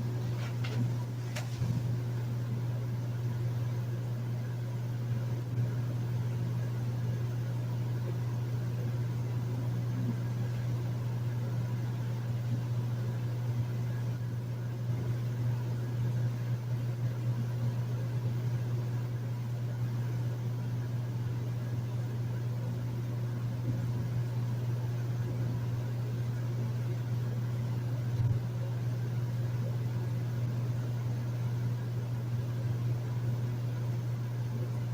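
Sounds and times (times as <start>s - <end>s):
air conditioner humming: 0.0s - 34.9s.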